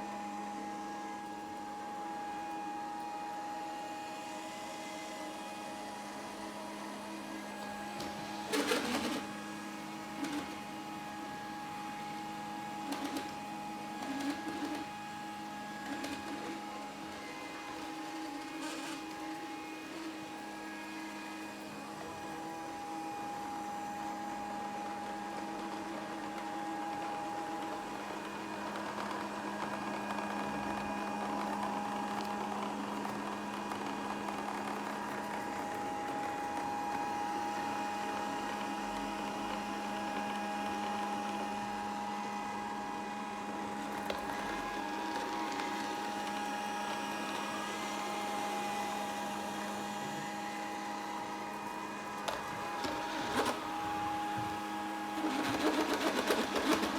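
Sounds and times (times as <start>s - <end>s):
robot vacuum motor hum: 0.2s - 56.9s.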